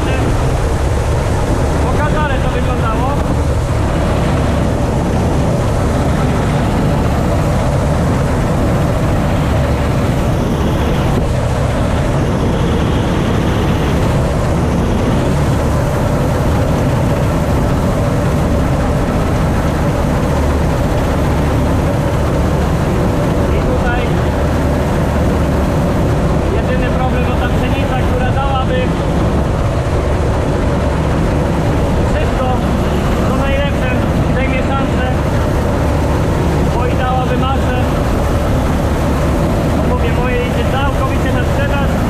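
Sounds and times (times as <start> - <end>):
combine harvester drone: 0.0 - 42.0.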